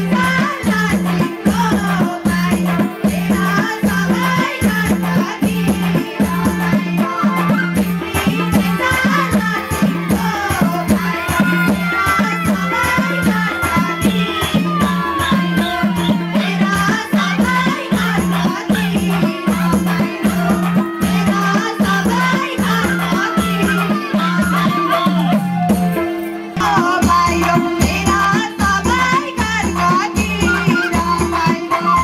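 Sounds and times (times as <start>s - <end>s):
fast steady drumbeat: 0.0s - 32.0s
rattling percussion: 0.0s - 32.0s
women singing folk song: 0.0s - 32.0s.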